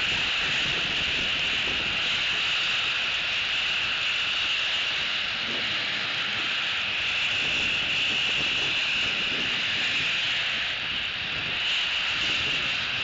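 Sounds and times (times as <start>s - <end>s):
wind through pine needles: 0.0s - 13.0s.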